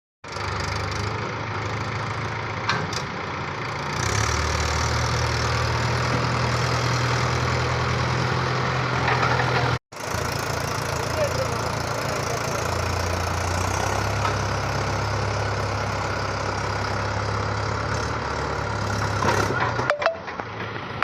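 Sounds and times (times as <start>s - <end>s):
diesel engine idling: 0.3s - 20.0s.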